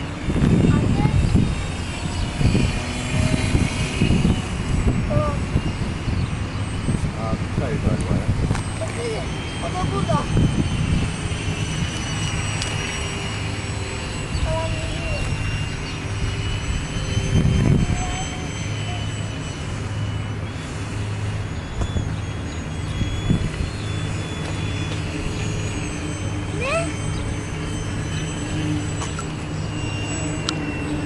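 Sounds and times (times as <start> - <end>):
low rumble: 0.0 - 31.0
model plane motor whining: 0.0 - 31.0.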